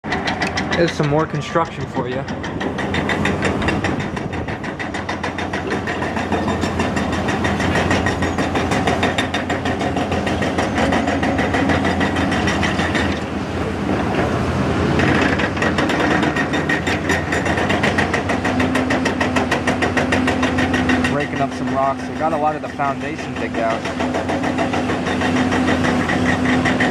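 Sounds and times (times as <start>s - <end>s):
diesel engine running: 0.0s - 26.9s
hydraulic rock breaker pounding: 0.0s - 26.9s.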